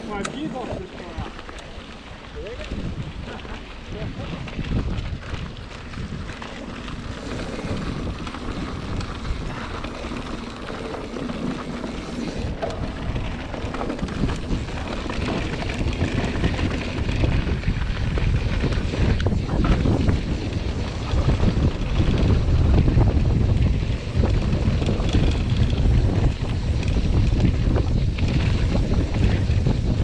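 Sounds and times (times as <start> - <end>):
bike tyres crunching on gravel: 0.0 - 30.0
wind buffeting microphone: 0.0 - 30.0.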